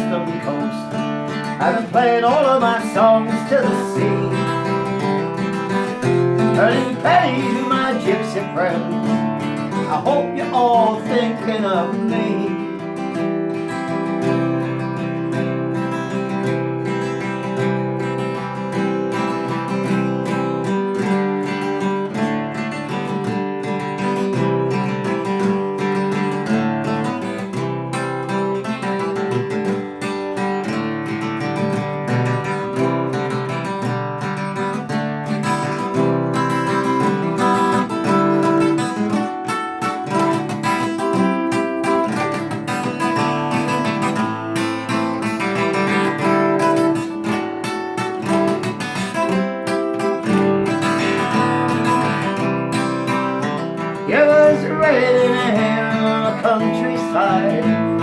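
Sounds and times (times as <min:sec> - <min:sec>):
acoustic guitar strummed and picked: 0:00.0 - 0:58.0.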